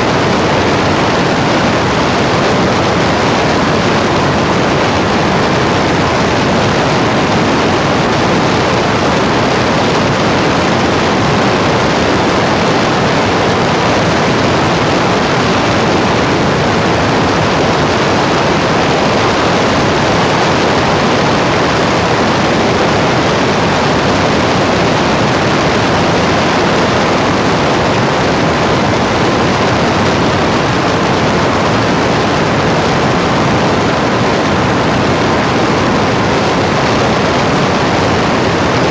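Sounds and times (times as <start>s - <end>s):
loud static rushing noise: 0.0s - 38.9s.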